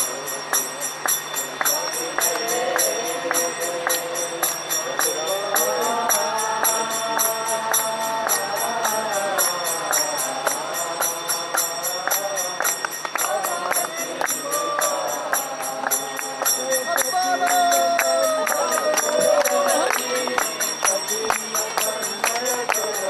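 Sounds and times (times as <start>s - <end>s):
ringing metal percussion: 0.0s - 23.0s
person singing: 1.7s - 23.0s.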